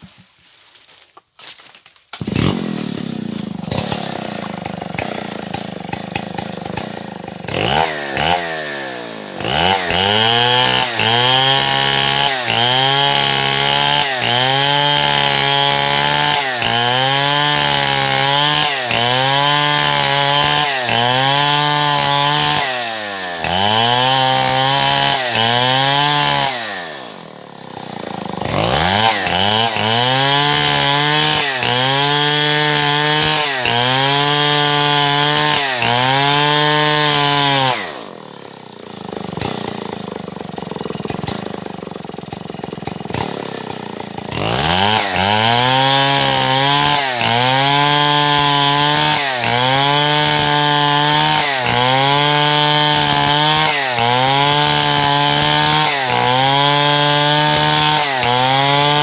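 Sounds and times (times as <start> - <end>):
chainsaw cutting wood: 1.6 - 59.0
chainsaw idling: 2.2 - 59.0.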